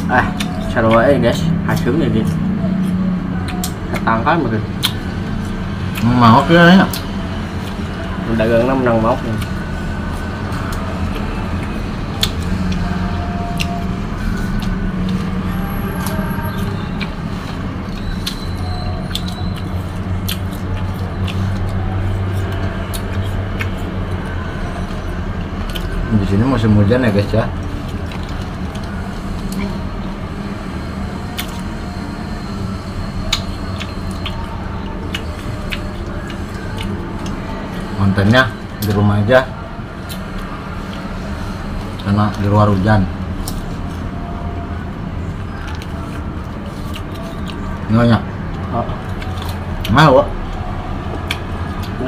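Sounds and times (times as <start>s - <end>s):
crunchy fruit being chewed: 0.0s - 52.0s.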